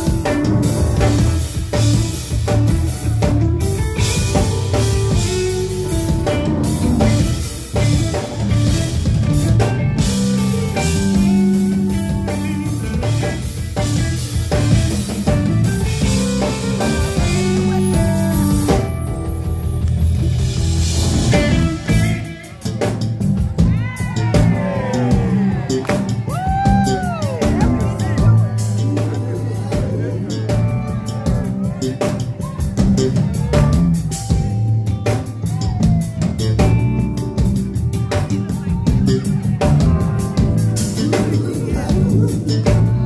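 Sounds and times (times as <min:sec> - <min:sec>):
drum kit: 0:00.0 - 0:43.0
electric guitar: 0:00.0 - 0:43.0.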